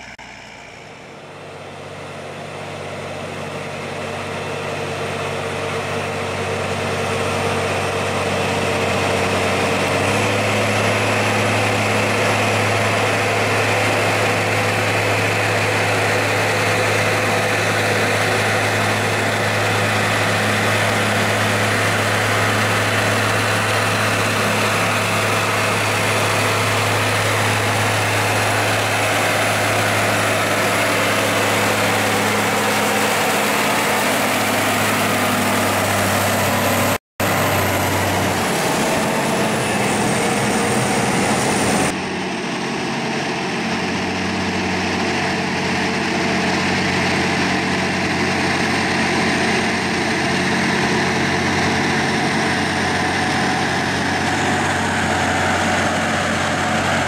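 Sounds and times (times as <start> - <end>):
tractor diesel engines running: 0.0 - 57.0.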